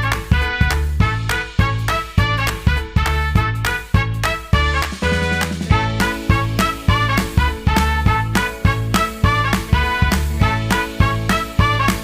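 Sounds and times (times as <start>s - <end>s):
upbeat swing music: 0.0s - 12.0s.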